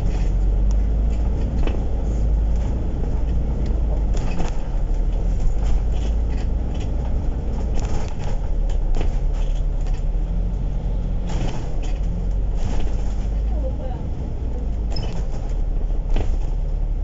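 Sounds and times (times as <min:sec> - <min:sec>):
loud clatter: 0:00.0 - 0:10.6, 0:11.2 - 0:16.8
bus engine and road rumble: 0:00.0 - 0:17.0
rattles and knocks: 0:00.0 - 0:17.0.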